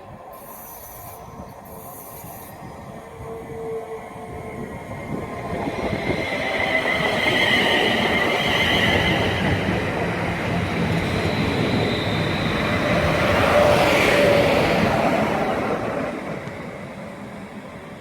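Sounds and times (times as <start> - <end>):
high whine of train: 0.0 - 18.0
train wheels rumbling on rail: 0.0 - 18.0.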